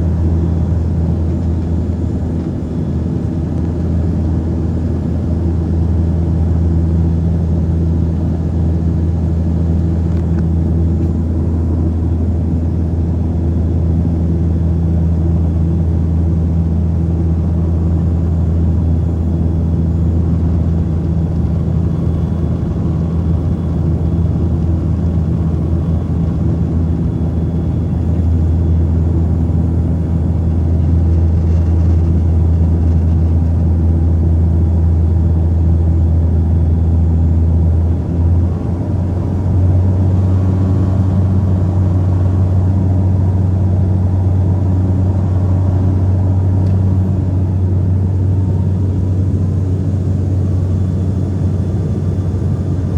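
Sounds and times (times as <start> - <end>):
turboprop engines droning: 0.0 - 52.9.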